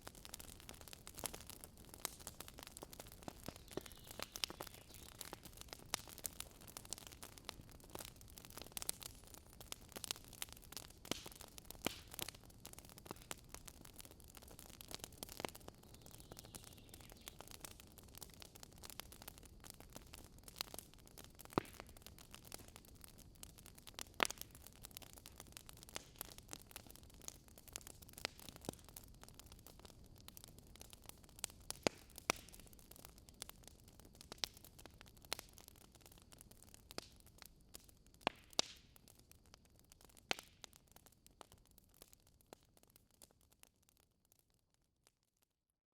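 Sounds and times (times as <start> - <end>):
soft hiss of burning: 0.0 - 43.7
campfire crackling and popping: 0.0 - 45.2.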